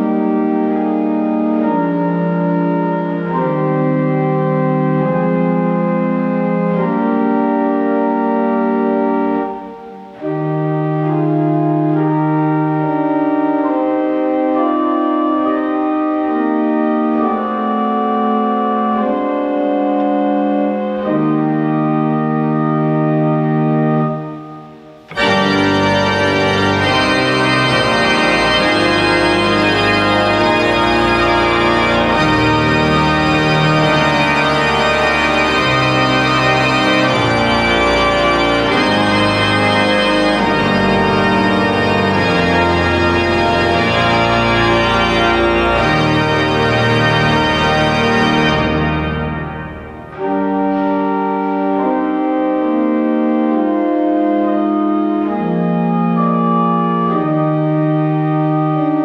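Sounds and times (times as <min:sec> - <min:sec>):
pipe organ playing chords: 0:00.0 - 0:59.0.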